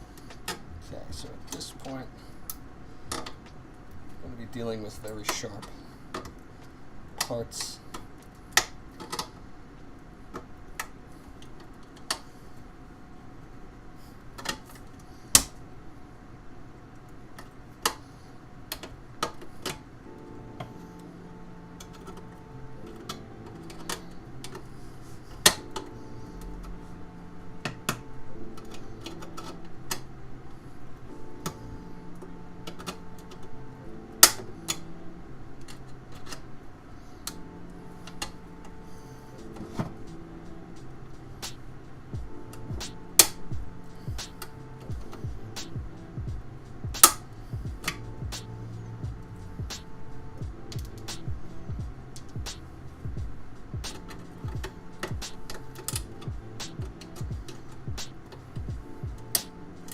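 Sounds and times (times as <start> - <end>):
faint background music: 0.0 - 59.9.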